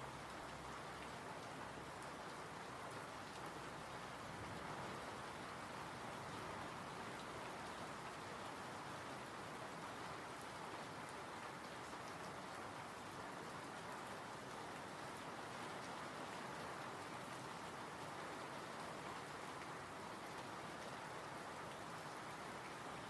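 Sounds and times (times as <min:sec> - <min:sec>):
calm rain hiss: 0:00.0 - 0:23.0
faint raindrop patter: 0:00.0 - 0:23.0.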